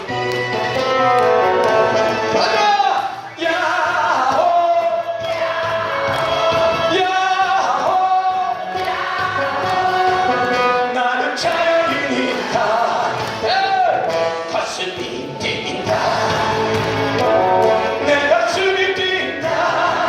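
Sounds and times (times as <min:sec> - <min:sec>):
backing music: 0:00.0 - 0:20.0
group of voices singing: 0:03.3 - 0:20.0.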